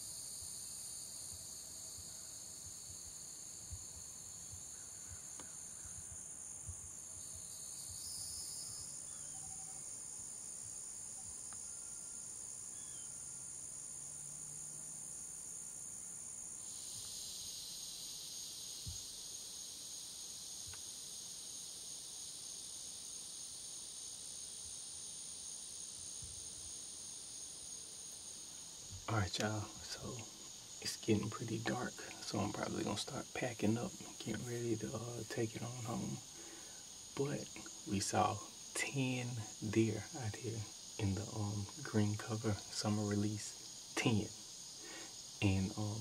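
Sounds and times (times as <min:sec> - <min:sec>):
insects shrilling: 0:00.0 - 0:46.0
lower shrill insect voice: 0:00.0 - 0:46.0.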